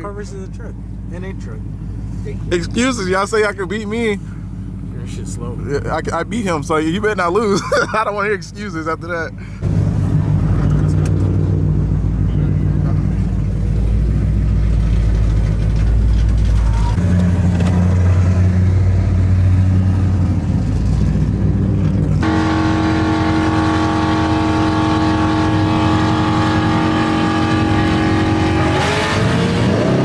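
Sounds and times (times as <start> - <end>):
race car engine rumbling: 0.0 - 30.0.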